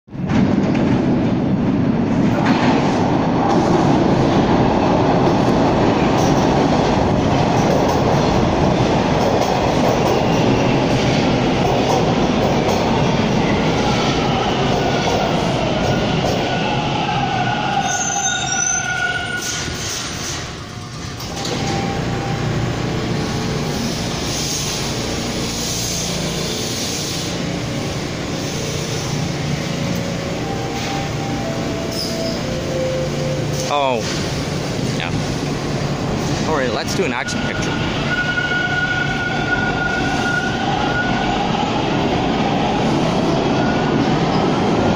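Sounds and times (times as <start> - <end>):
stopped train humming: 0.1 - 44.9
subway train running: 0.1 - 44.9.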